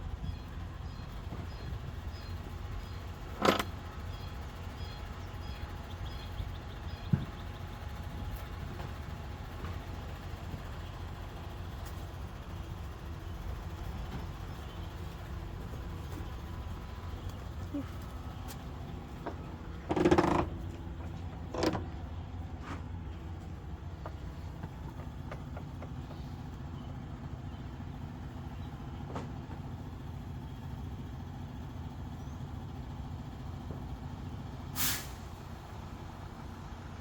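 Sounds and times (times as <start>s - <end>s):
heavy vehicle engine idling: 0.0s - 37.0s.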